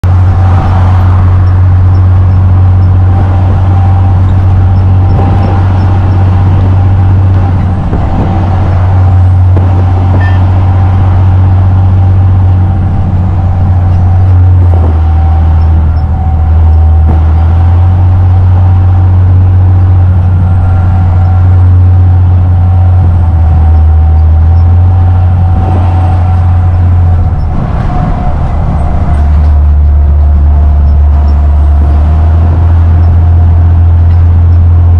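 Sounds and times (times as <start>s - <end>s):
truck diesel engine droning: 0.0s - 34.9s.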